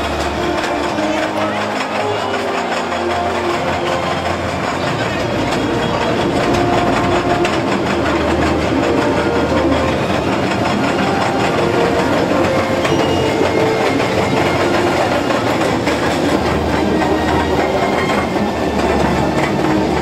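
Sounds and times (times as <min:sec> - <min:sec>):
continuous rattling clatter: 0:00.0 - 0:20.0
ride vehicle motor running: 0:00.0 - 0:20.0.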